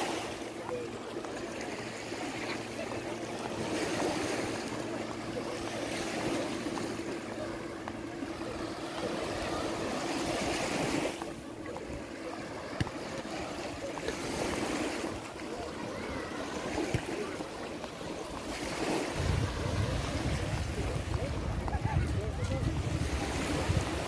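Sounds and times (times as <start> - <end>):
small waves washing onto sand: 0.0 - 24.0.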